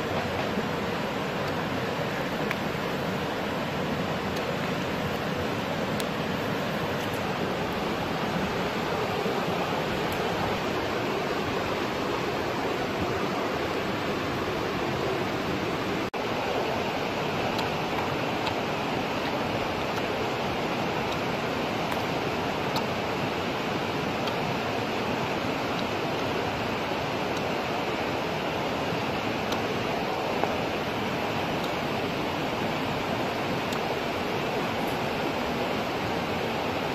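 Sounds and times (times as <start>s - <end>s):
steady rushing noise: 0.0s - 36.9s.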